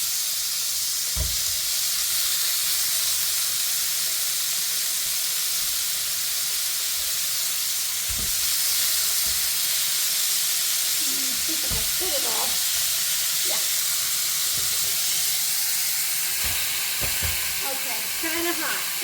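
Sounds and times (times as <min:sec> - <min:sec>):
sausage sizzling on a grill: 0:00.0 - 0:19.0.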